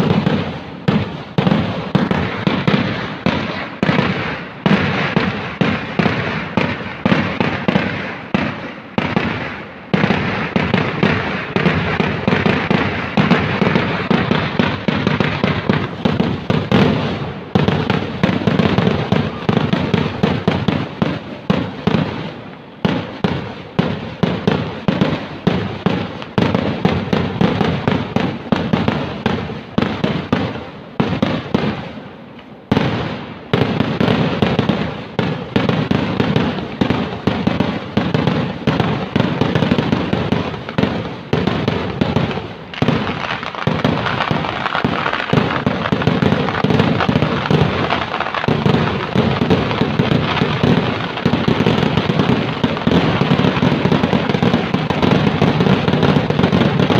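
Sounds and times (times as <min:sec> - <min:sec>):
fireworks exploding: 0:00.0 - 0:56.9.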